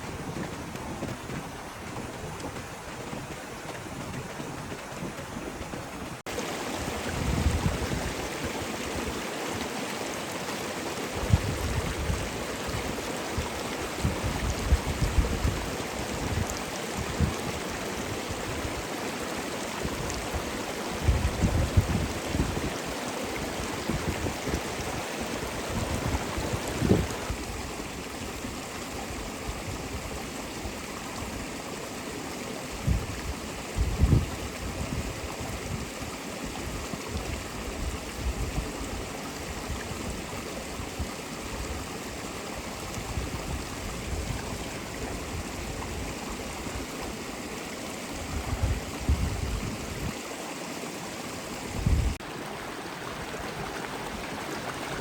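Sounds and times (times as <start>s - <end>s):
running water rushing: 0.0s - 55.0s.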